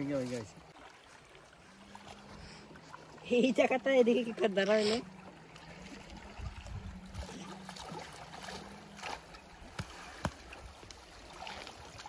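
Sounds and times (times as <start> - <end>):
shallow river water flowing: 0.0 - 12.0.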